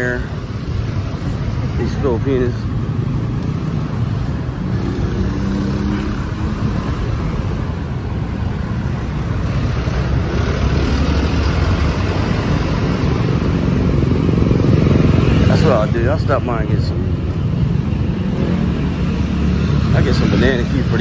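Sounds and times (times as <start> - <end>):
car engines passing: 0.0 - 21.0
motorcycles passing: 0.0 - 21.0
road noise: 0.0 - 21.0.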